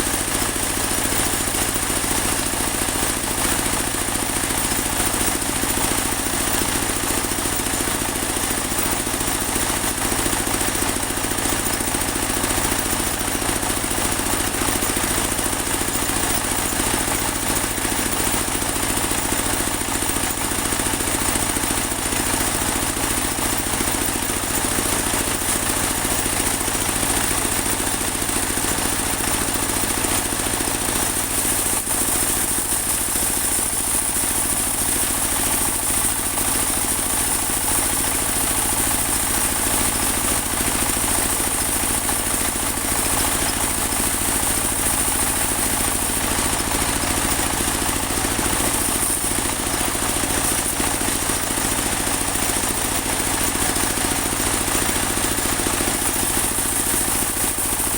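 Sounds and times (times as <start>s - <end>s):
sawmill engine drone: 0.0s - 57.9s.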